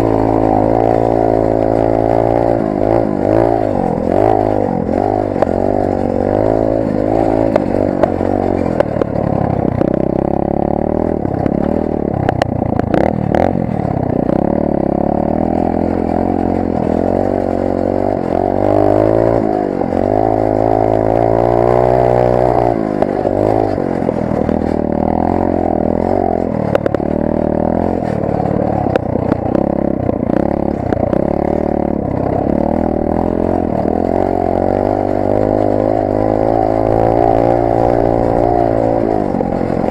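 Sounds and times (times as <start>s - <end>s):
pit bike engine revving: 0.0s - 39.9s
rattling knocks: 0.0s - 39.9s.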